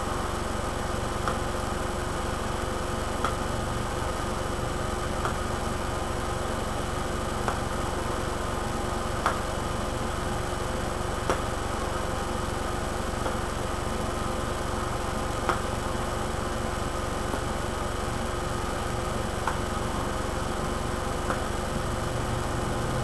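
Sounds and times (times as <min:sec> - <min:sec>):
machine hum and hiss: 0:00.0 - 0:23.0.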